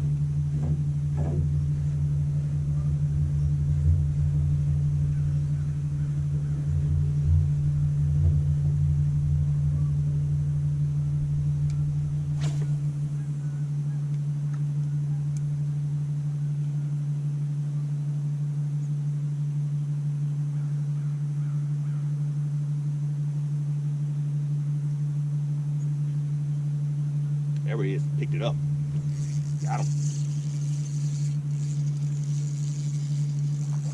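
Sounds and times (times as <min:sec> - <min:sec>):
low rumble: 0:00.0 - 0:33.9
steady low hum: 0:00.0 - 0:33.9.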